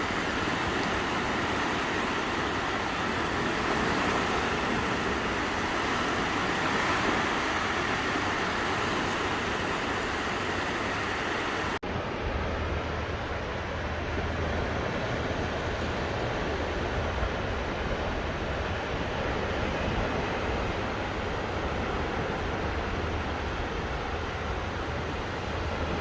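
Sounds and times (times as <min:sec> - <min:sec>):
waves washing onto beach: 0:00.0 - 0:12.7, 0:14.1 - 0:26.0
wind: 0:00.0 - 0:26.0.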